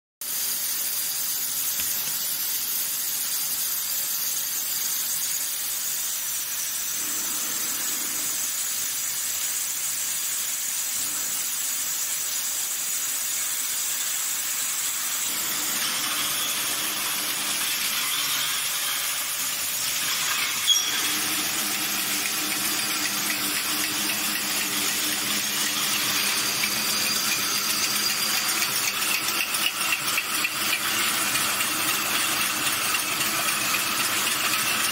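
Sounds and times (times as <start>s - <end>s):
machine hissing with high whine: 0.2s - 34.9s.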